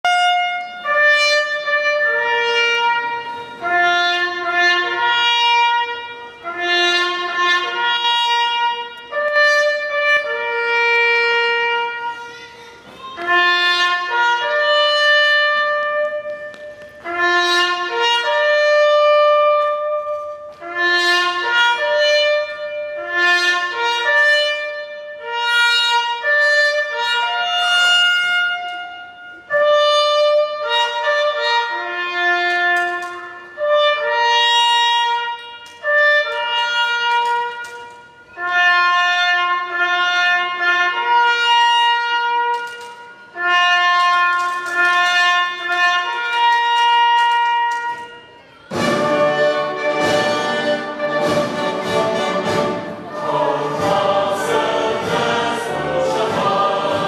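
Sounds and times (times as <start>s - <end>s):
brass band playing slow melody: 0.1s - 12.4s, 13.2s - 48.0s, 48.7s - 57.0s.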